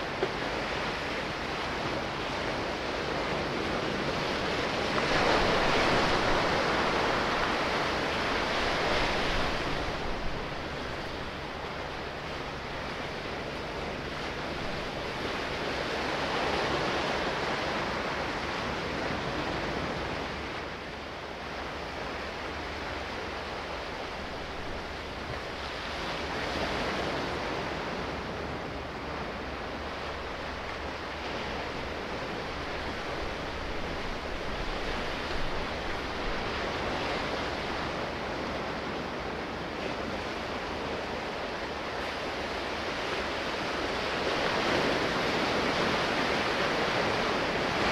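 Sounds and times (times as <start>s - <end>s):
sea waves washing in: 0.0s - 47.9s.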